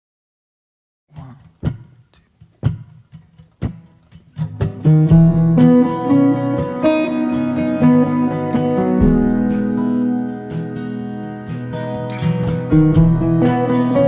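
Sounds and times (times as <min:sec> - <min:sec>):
strummed guitar chords: 0:02.6 - 0:14.0.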